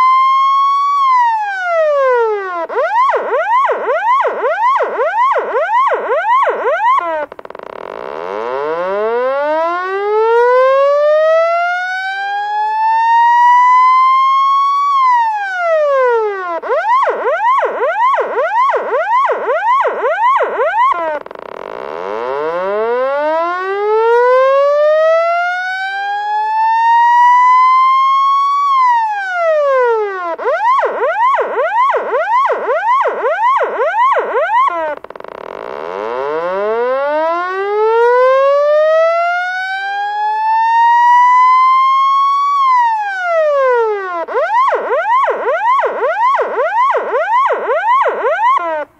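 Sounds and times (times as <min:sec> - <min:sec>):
electronic police siren: 0:00.0 - 0:48.9.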